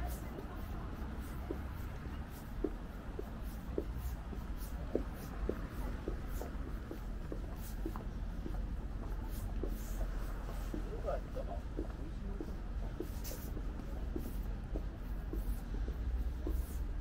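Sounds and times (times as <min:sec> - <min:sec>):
footsteps on pavement: 0:00.0 - 0:17.0
low background rumble: 0:00.0 - 0:17.0.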